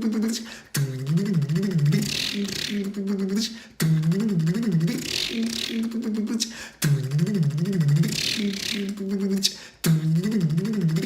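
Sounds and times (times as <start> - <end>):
man imitating engine cranking: 0.7 - 11.0.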